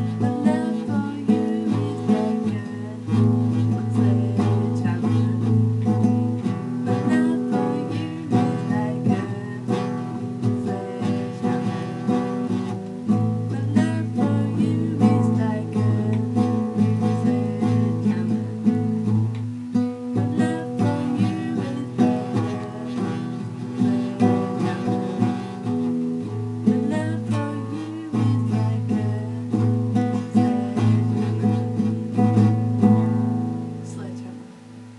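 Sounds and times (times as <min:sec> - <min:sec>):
person singing: 0:00.0 - 0:34.6
strummed acoustic guitar: 0:00.0 - 0:34.9.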